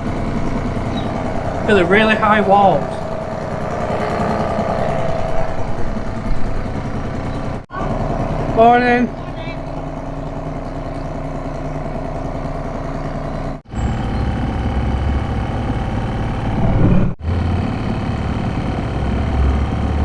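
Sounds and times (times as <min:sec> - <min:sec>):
two-stroke outboard motor running: 0:00.0 - 0:20.0.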